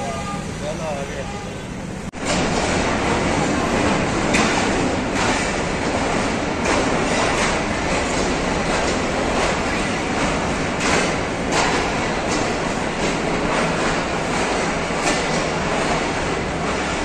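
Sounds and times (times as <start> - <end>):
train rumbling: 0.0 - 17.0
train wheels clacking on rail joints: 2.2 - 17.0.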